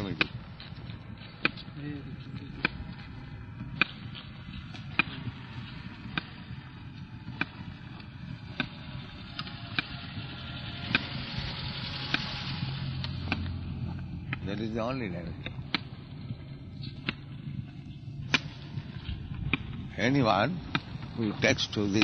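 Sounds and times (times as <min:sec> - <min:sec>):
low hum: 0:00.0 - 0:22.0
steady rushing noise: 0:00.0 - 0:22.0.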